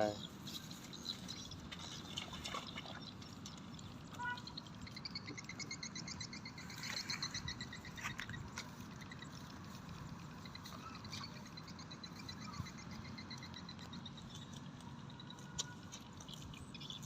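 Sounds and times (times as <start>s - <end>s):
animals chirping: 0.0s - 17.0s.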